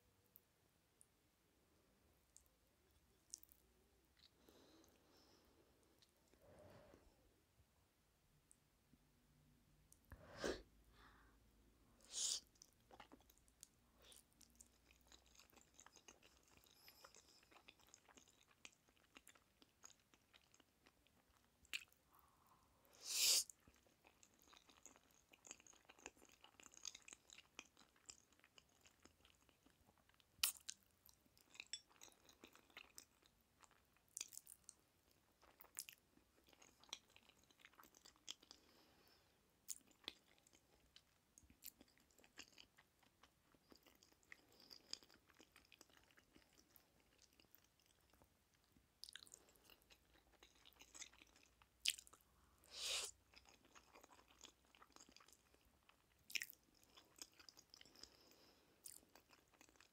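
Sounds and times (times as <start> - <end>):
person chewing noodles: 3.2 - 6.4, 12.0 - 22.1, 23.4 - 59.9.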